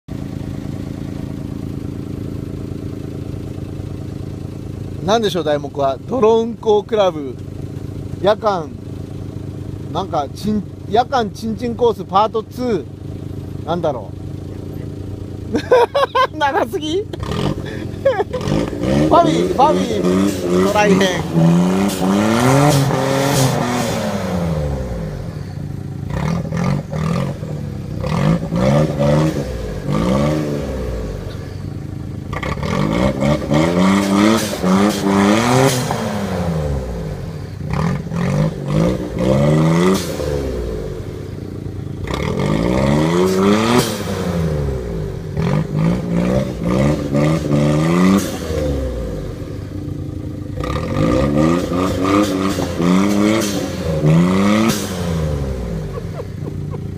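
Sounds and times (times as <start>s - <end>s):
vehicle engine revving: 0.1s - 56.9s.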